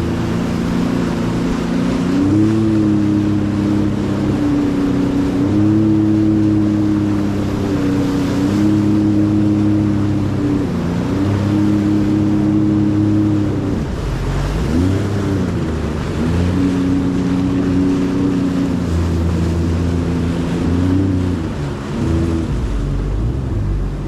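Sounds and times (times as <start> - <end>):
jet ski engine: 0.0 - 24.0
wind and water rushing: 0.0 - 24.0.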